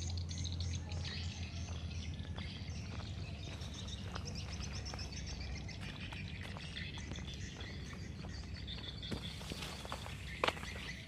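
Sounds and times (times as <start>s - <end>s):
birds chirping and twittering: 0.0s - 11.0s.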